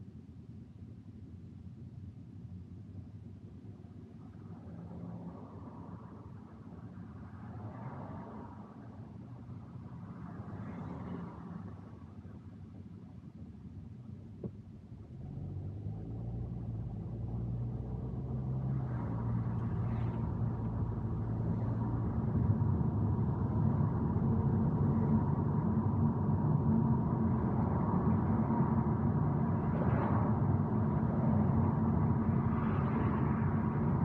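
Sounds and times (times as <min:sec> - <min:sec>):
road noise inside car: 0:02.4 - 0:34.0.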